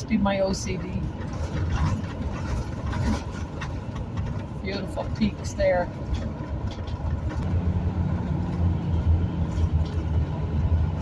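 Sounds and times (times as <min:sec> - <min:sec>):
vehicle cabin road noise: 0:00.0 - 0:11.0.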